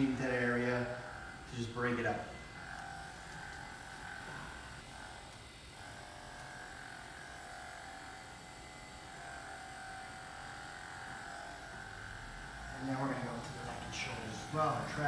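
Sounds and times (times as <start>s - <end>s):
percussion massager motor buzz: 0.0s - 15.0s.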